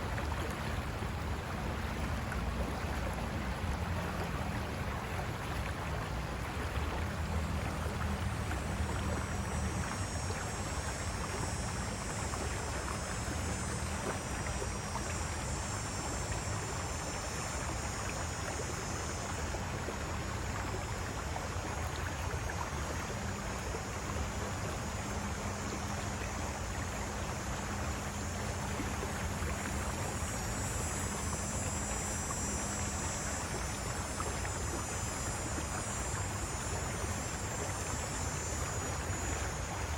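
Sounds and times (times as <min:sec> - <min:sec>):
high thin insect drone: 0:00.0 - 0:39.9.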